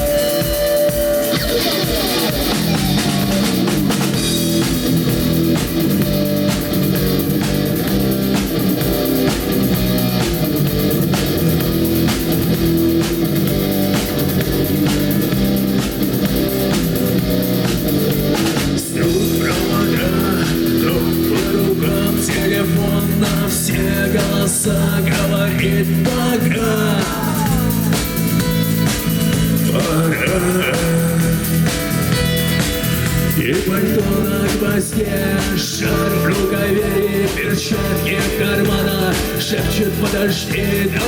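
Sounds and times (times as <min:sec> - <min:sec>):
bass guitar: 0:00.0 - 0:41.0
drum kit beat: 0:00.0 - 0:41.0
electric guitar: 0:00.0 - 0:41.0.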